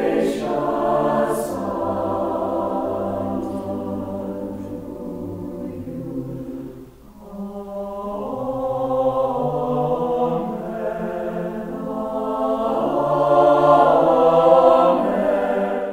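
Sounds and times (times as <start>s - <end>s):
choir singing sustained chords: 0.0s - 15.9s.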